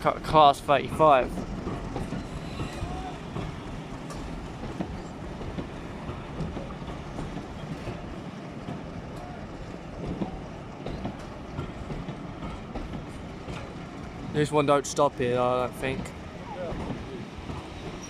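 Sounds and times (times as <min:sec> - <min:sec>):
train rumbling past: 0:00.0 - 0:18.0
wheels clicking over rail joints: 0:00.0 - 0:18.0.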